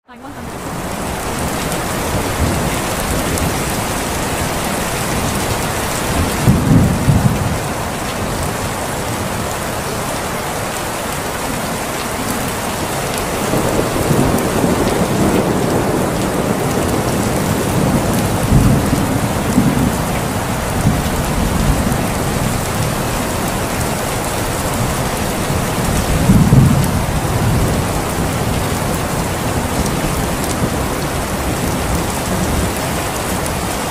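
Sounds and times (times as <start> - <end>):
heavy rain: 0.0 - 33.9
thunder rolling: 0.5 - 9.5, 13.2 - 33.7.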